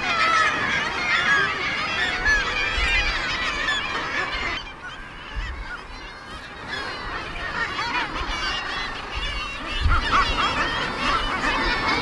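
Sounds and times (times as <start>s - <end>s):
seabirds calling: 0.0s - 12.0s.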